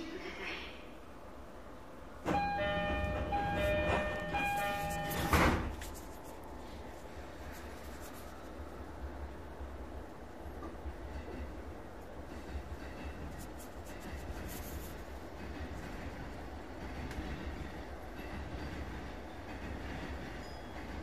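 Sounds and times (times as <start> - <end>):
train running gear rumble: 2.0 - 21.0.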